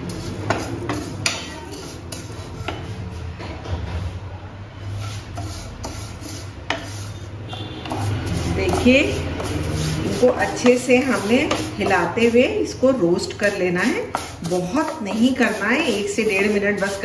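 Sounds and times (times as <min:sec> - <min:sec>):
wooden spatula scraping a pan: 0:00.0 - 0:17.0.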